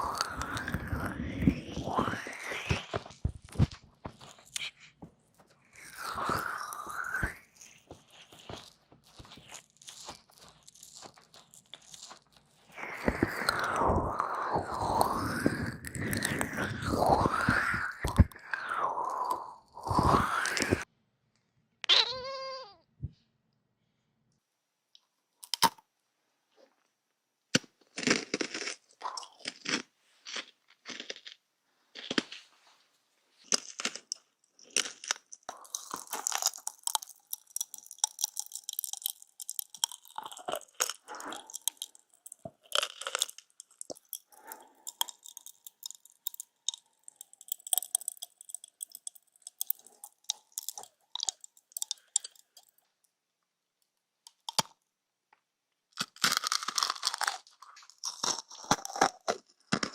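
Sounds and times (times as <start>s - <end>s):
close crunching and crackling: 0.0s - 20.9s, 27.5s - 32.8s, 33.4s - 53.1s, 53.8s - 54.9s, 55.8s - 59.9s.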